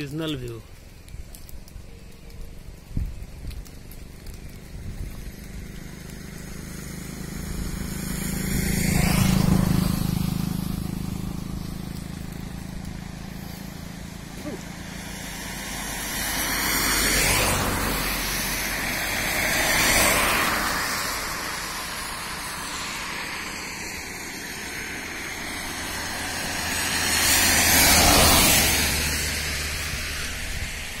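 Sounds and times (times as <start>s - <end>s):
vehicles passing on wet road: 0.0s - 31.0s.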